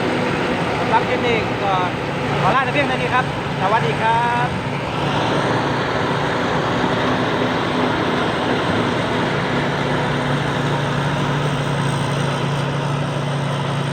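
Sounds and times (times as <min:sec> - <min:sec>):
machinery rushing noise: 0:00.0 - 0:13.6
combine harvester engine drone: 0:00.0 - 0:13.9.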